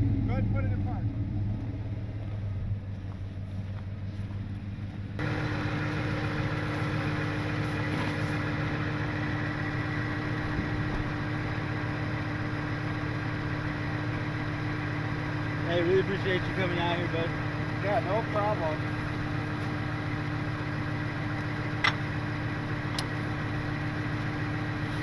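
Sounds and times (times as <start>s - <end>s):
truck engines idling: 0.0s - 25.0s.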